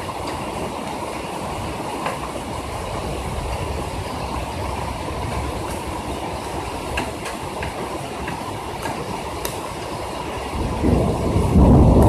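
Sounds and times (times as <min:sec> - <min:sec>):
heavy rain drumming on window ledge: 0:00.0 - 0:12.0.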